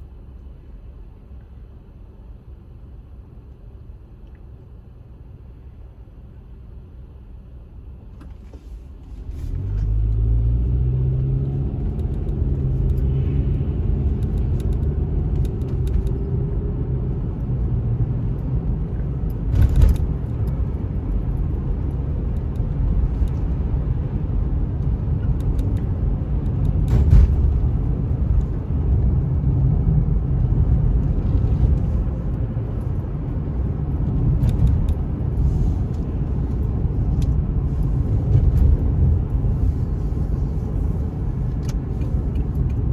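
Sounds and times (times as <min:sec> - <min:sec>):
car engine and road rumble: 0:00.0 - 0:42.9.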